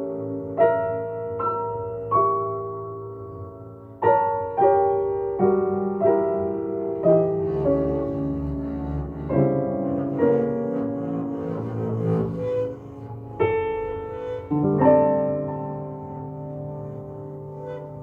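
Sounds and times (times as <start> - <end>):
slow jazz piano chords: 0.0 - 18.0.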